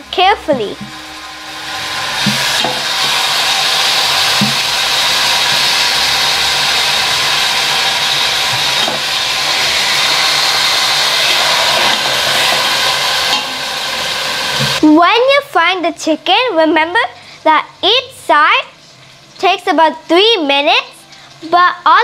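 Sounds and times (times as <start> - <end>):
meat sizzling in a pan: 0.0 - 15.0, 17.1 - 22.0.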